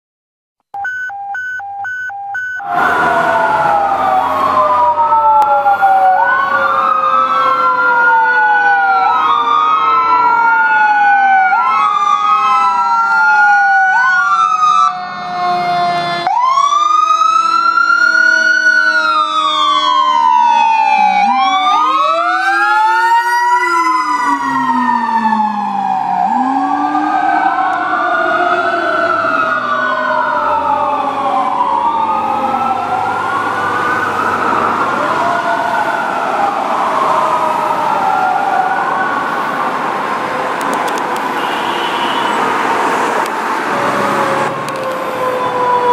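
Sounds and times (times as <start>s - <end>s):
low siren tone rising and falling: 0.8s - 41.2s, 42.0s - 45.9s
electronic siren sweeping: 0.8s - 45.9s.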